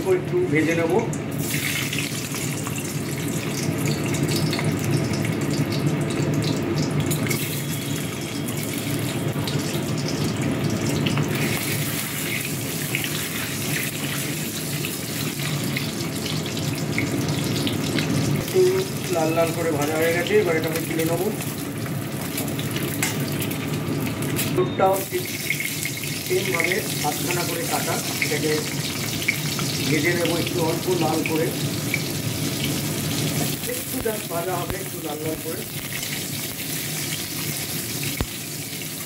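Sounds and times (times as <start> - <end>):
eggs sizzling in hot oil: 0.0 - 39.0.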